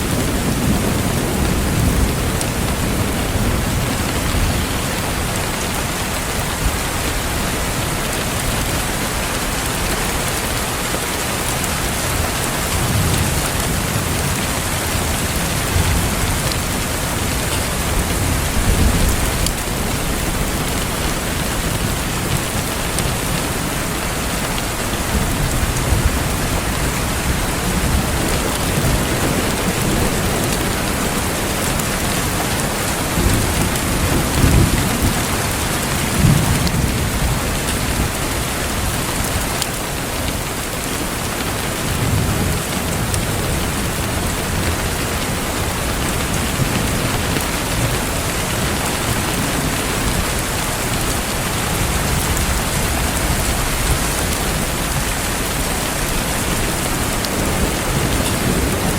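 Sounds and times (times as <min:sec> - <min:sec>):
thunder rumbling: 0:00.0 - 0:10.4, 0:11.6 - 0:58.9
steady rain falling: 0:00.0 - 0:58.9.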